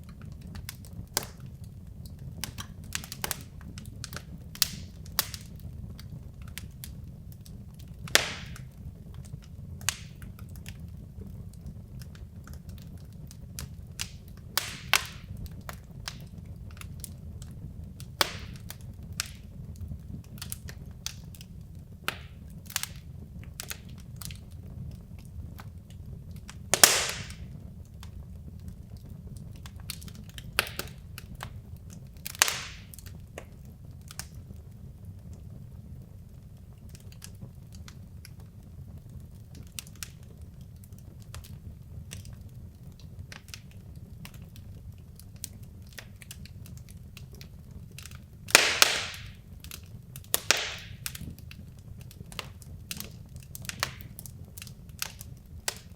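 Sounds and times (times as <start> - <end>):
logs crackling in a fireplace: 0.0 - 55.9
loud fire pops: 0.0 - 55.9
low rumble of fire: 0.0 - 55.9.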